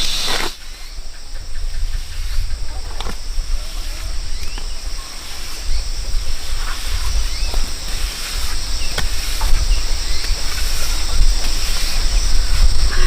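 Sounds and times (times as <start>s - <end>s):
insect chorus: 0.0s - 13.0s
short insect chirps: 0.0s - 13.0s.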